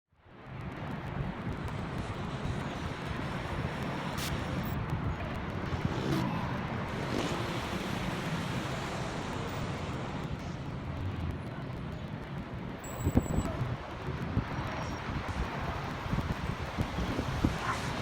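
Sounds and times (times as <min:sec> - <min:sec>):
raindrops ticking close by: 0:00.2 - 0:18.0
wind rumbling on microphone: 0:00.3 - 0:18.0
heavy rain: 0:00.4 - 0:18.0.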